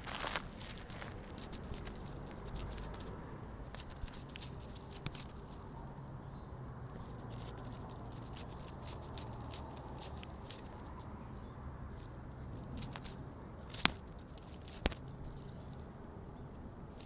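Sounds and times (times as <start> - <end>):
light clicks and patters: 0.9 - 5.9, 6.8 - 11.1, 11.9 - 17.0.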